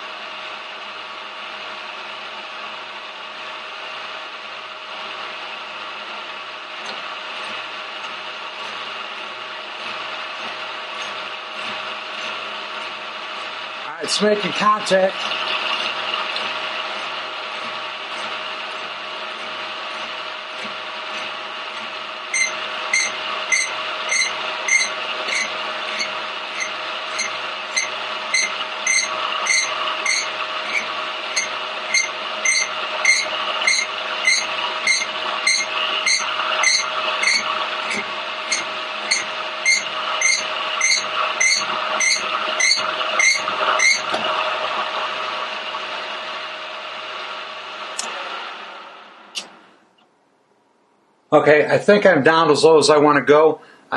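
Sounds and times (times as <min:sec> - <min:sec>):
milling machine spindle humming: 0:00.0 - 0:49.6.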